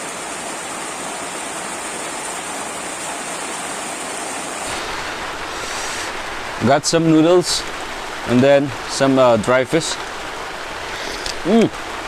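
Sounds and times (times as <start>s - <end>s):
rushing water or rain: 0.0s - 12.0s.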